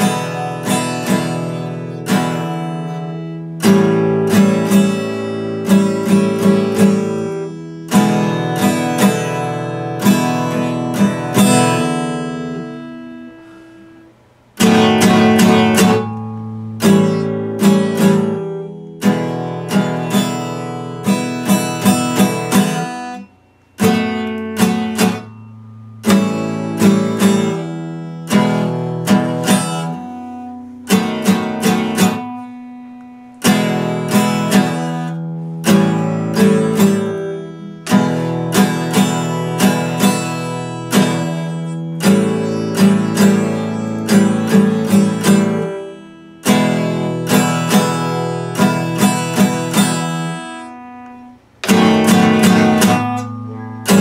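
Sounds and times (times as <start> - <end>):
acoustic guitar strummed chords: 0.0 - 54.0.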